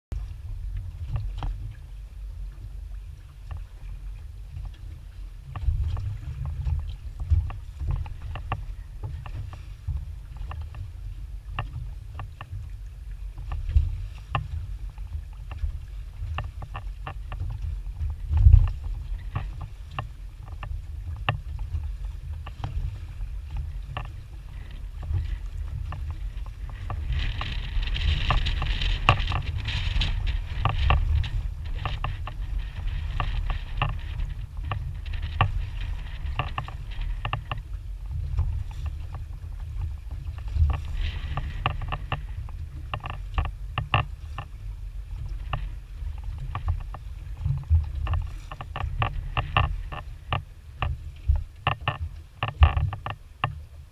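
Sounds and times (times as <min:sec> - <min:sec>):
wind rumble on microphone: 0:00.0 - 0:53.9
water slapping against boat hull: 0:00.2 - 0:53.9.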